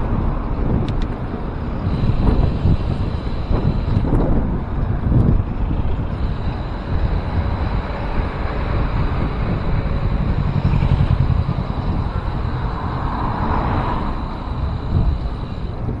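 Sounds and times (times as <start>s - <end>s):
motor traffic passing close by: 0.0s - 16.0s
wind rumbling on microphone: 0.0s - 16.0s.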